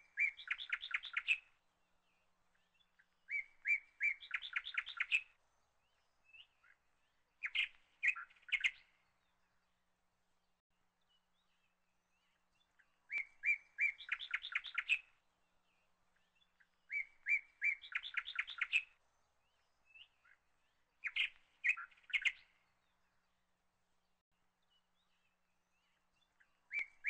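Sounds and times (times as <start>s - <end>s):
small bird singing trills: 0.0s - 9.9s, 11.0s - 23.5s, 24.1s - 27.0s.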